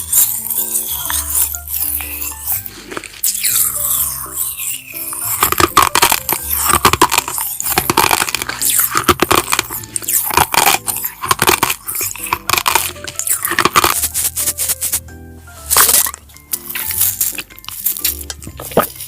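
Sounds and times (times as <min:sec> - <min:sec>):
crunchy chewing: 0:00.0 - 0:15.0, 0:15.6 - 0:19.0
background music: 0:00.0 - 0:19.0.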